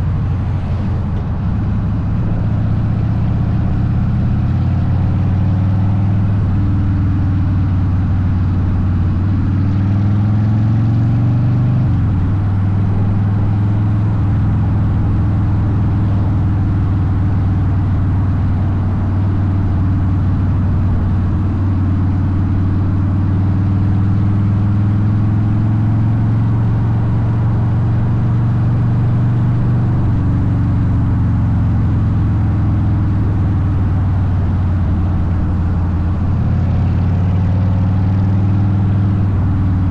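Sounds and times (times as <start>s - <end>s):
motorcycle engine running: 0.0s - 10.6s, 11.8s - 39.9s.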